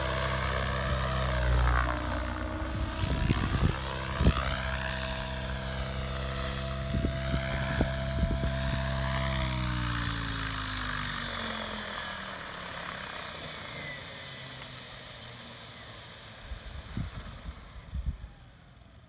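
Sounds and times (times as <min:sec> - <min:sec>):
helicopter rotor whir falling in pitch: 0:00.0 - 0:19.0.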